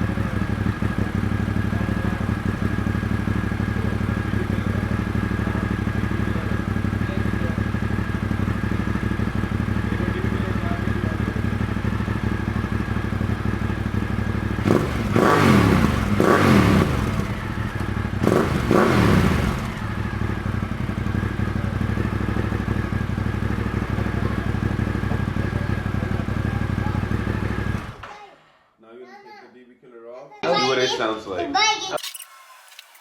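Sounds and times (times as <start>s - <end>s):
motorcycle idling: 0.0s - 28.1s
motorcycle throttle revving: 0.0s - 28.1s.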